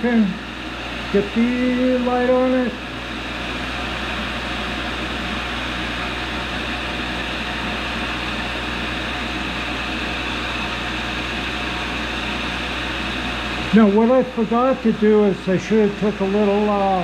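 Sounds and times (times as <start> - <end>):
grinder motor whirring: 0.0 - 17.0.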